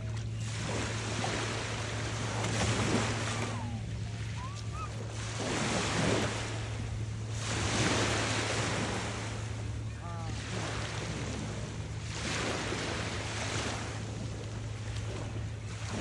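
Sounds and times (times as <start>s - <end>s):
waves washing on pebbly shore: 0.0s - 16.0s.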